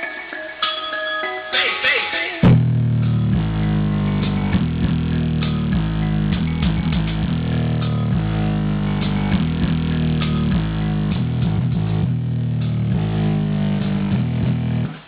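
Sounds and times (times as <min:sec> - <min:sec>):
music with heavy bass and guitar: 0:00.0 - 0:15.0.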